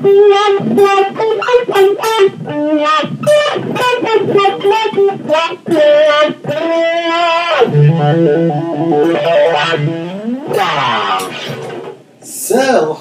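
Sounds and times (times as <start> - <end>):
electric guitar with wah pedal: 0.0 - 12.1.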